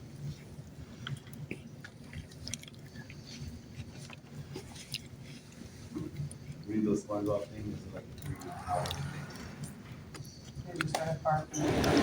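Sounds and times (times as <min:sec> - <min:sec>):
quiet chewing clicks: 0:00.2 - 0:11.0.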